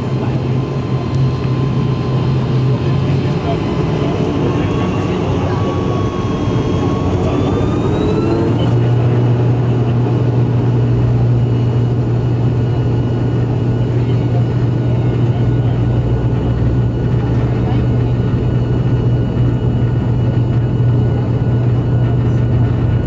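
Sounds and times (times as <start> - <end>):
deep propeller drone: 0.0 - 23.0
turboprop engines whining: 0.0 - 23.0.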